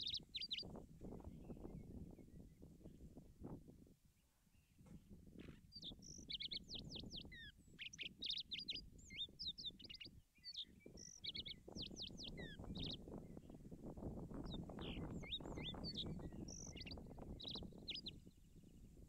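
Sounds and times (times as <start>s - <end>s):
songbird chirping: 0.0s - 2.7s, 4.2s - 13.6s, 14.3s - 19.0s.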